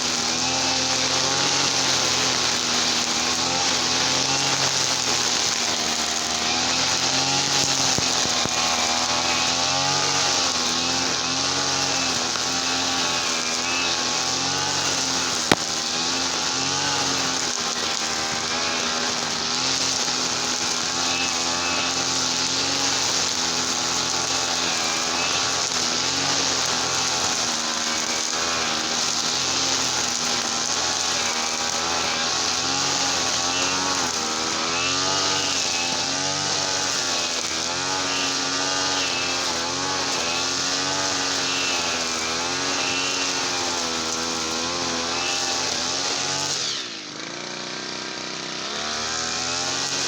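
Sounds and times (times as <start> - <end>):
brush cutter engine running: 0.0 - 50.0.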